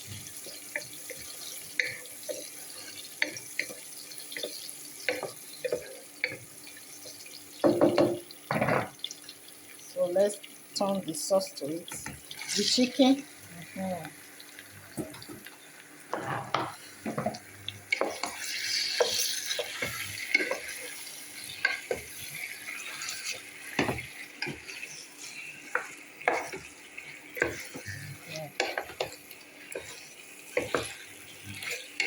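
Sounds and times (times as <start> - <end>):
frying hiss: 0.0 - 32.0
simmering sauce: 0.0 - 32.0.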